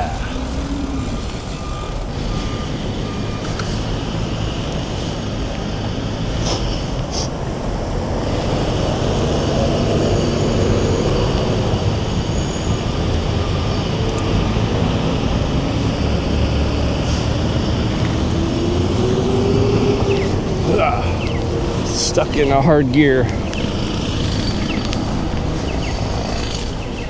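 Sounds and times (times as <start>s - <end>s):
vehicle motor rising in pitch: 0.0s - 6.4s, 8.0s - 26.7s
road traffic noise: 0.0s - 27.0s.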